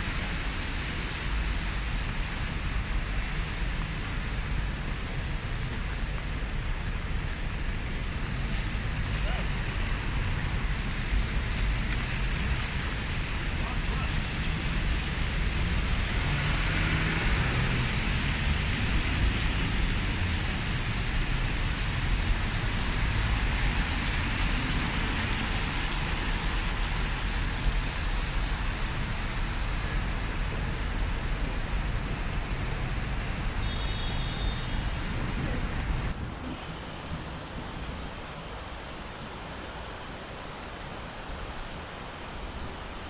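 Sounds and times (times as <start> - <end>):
low rumble like traffic: 0.0 - 43.0
steady rain falling: 0.0 - 43.0.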